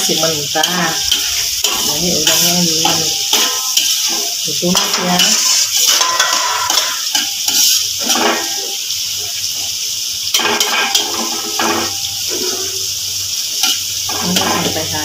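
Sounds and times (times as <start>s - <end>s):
metal spatula scraping a pan: 0.0s - 9.4s, 10.3s - 12.9s, 13.6s - 14.9s
shrimp sizzling in hot oil: 0.0s - 15.0s.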